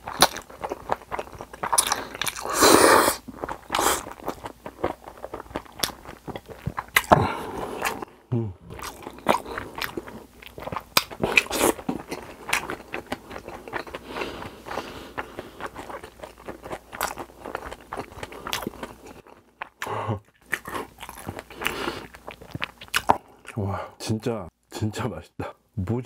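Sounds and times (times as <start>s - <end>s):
wet chewing with sharp crunches: 0.0s - 2.6s, 3.2s - 8.1s, 8.7s - 23.6s.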